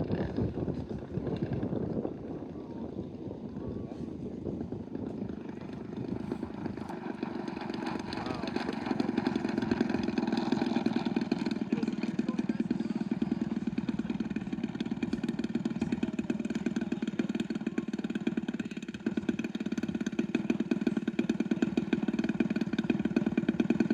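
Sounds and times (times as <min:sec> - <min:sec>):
small engine idling: 0:00.0 - 0:23.9.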